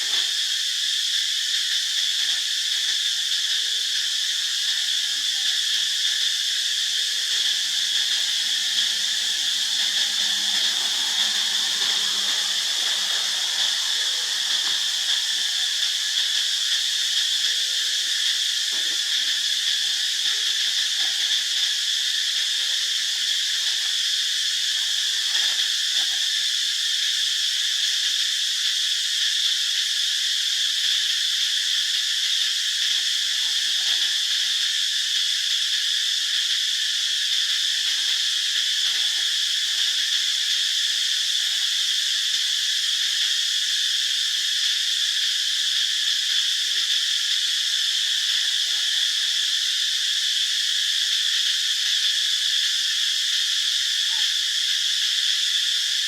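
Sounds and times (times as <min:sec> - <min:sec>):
insect chorus drone: 0:00.0 - 0:56.0.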